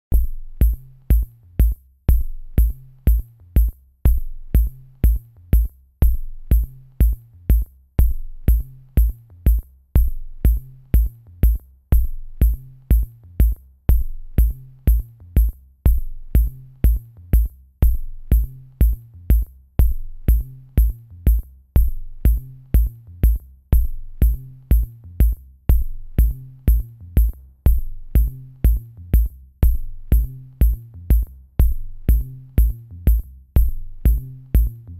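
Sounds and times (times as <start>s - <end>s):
deep repeating bass line: 0.1s - 34.9s
drum machine beat: 0.1s - 34.9s.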